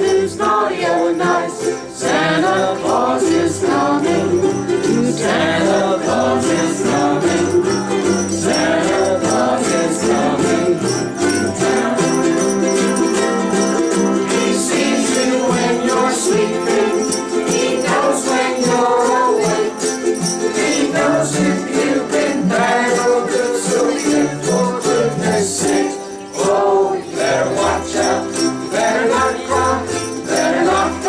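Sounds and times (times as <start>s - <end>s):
sleigh bells shaking: 0.0s - 31.0s
ukulele group strumming: 0.0s - 31.0s.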